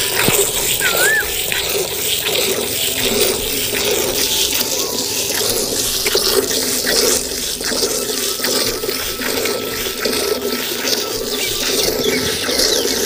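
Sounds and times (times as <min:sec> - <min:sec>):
milk squirting into a steel pail: 0:00.0 - 0:13.0.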